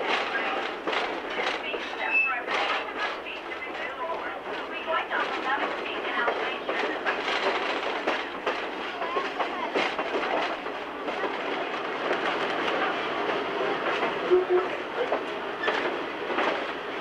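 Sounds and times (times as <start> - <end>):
train car rolling clatter on track: 0.0 - 17.0.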